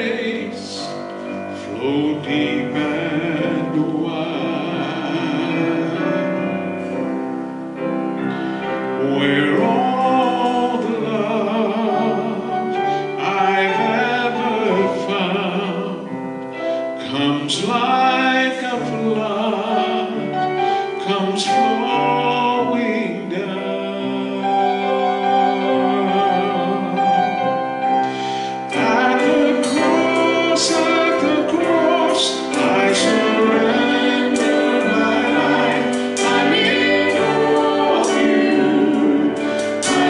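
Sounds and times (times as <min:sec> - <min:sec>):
man and woman singing: 0:00.0 - 0:06.7, 0:08.5 - 0:16.2, 0:16.8 - 0:27.6, 0:28.5 - 0:40.0
keyboard: 0:00.0 - 0:40.0.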